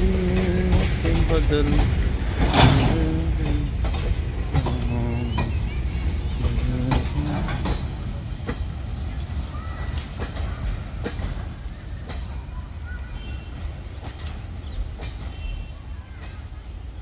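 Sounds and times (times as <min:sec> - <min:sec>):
train rumbling on track: 0:00.0 - 0:17.0
wheels clicking over rail joints: 0:00.0 - 0:17.0.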